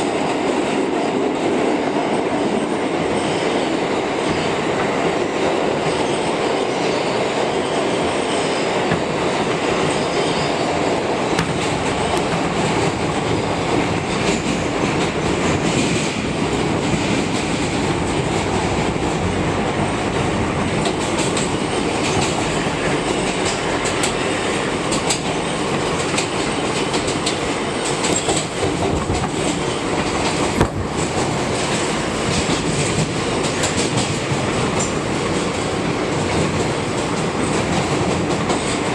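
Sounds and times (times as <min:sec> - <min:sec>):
subway train rumbling: 0:00.0 - 0:38.9.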